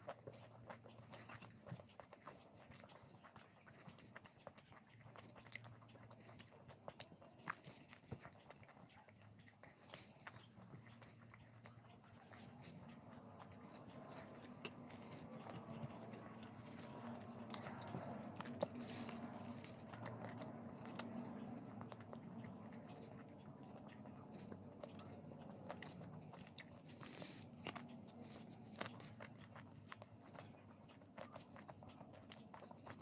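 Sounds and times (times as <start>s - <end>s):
chewing crisp fried food: 0.0s - 33.0s.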